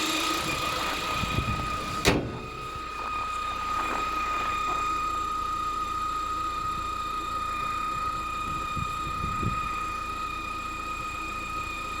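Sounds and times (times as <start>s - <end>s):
car engine hum: 0.0s - 12.0s
high-pitched alternator whistle: 0.0s - 12.0s.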